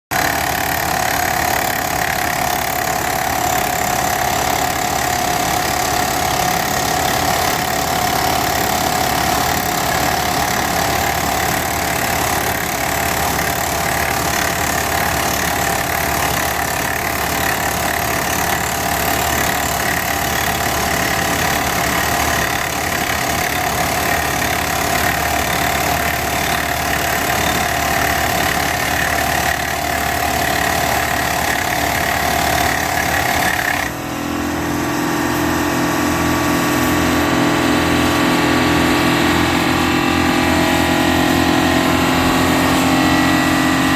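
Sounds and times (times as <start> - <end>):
rock drill rig running: 0.1 - 43.9.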